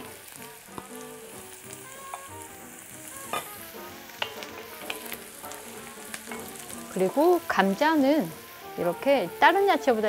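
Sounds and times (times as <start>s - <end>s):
vegetables sizzling in a pot: 0.0s - 10.0s.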